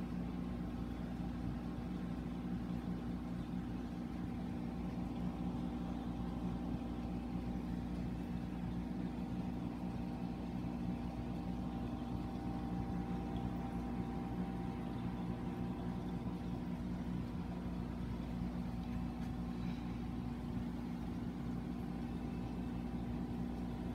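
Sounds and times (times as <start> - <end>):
aquarium pumps humming: 0.0 - 23.9.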